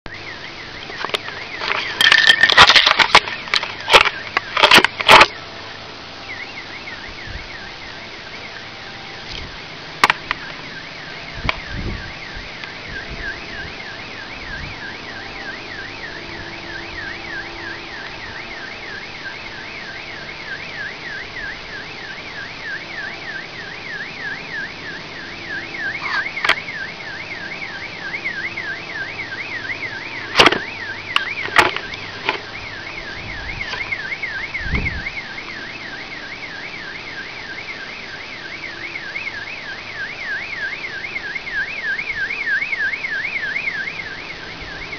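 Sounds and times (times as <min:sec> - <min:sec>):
car alarm siren wailing: 0:00.1 - 0:44.9
steady background noise: 0:00.1 - 0:44.9.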